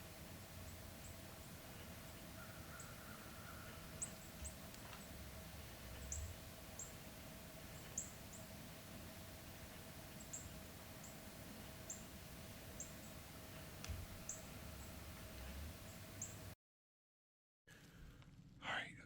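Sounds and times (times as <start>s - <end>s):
faint steady hum: 0.0s - 16.6s.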